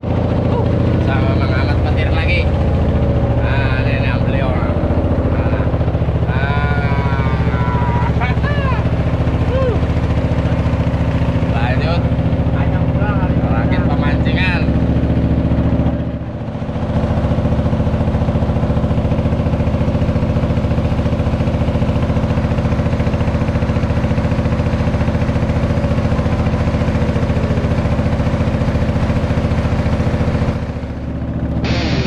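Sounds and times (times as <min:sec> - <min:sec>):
boat engine throbbing: 0:00.0 - 0:32.0.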